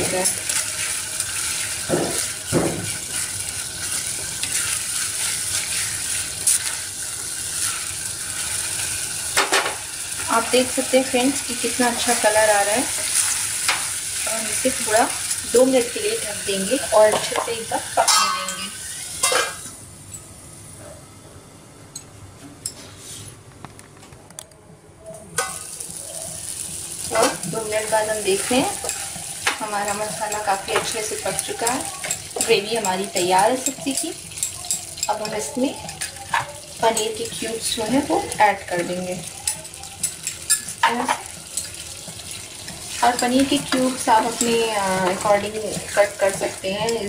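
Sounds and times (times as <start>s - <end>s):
gravy sizzling: 0.0s - 19.9s, 25.4s - 47.0s
gas burner hum: 0.0s - 24.6s, 25.3s - 47.0s.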